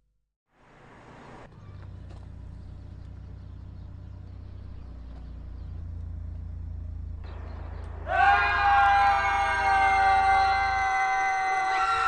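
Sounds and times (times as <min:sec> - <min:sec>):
car engine and road rumble: 0:00.5 - 0:12.0.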